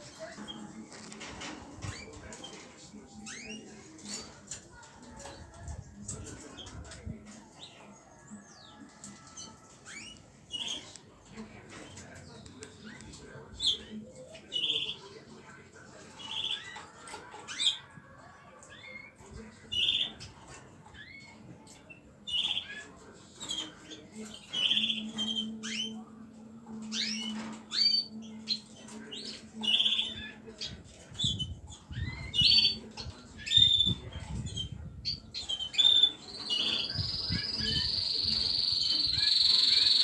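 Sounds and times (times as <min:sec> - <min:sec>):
small birds chirping: 0:00.0 - 0:18.0, 0:18.6 - 0:40.0.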